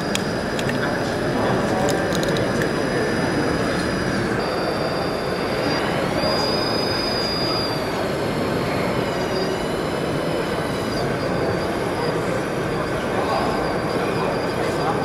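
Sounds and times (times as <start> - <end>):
hall background noise: 0.0 - 15.0
hydraulic pump whining: 0.0 - 15.0.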